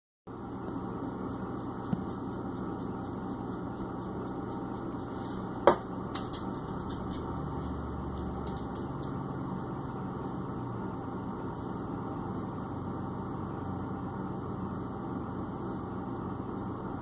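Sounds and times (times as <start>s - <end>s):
low indoor hum: 0.3s - 17.0s.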